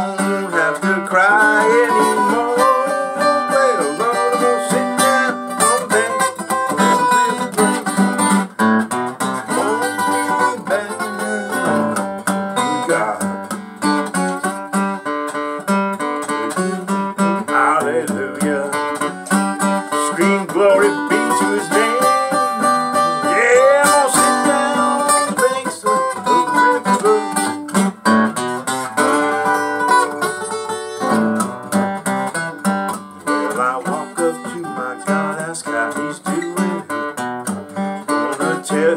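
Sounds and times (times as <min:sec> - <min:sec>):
acoustic guitar blues: 0:00.0 - 0:38.9.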